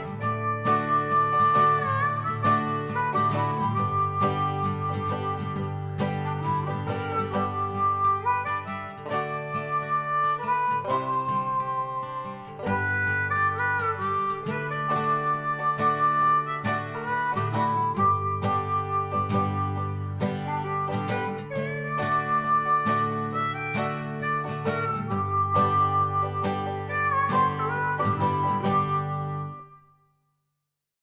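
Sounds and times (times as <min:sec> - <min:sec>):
harmonica playing held notes: 0:00.0 - 0:29.9
guitar accompaniment: 0:00.0 - 0:30.0.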